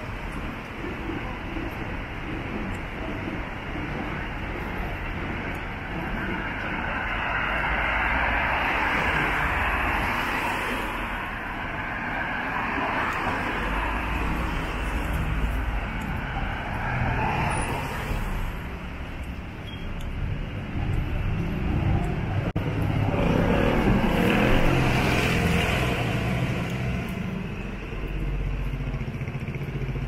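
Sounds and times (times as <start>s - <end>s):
vehicles passing on wet street: 0.0s - 30.0s.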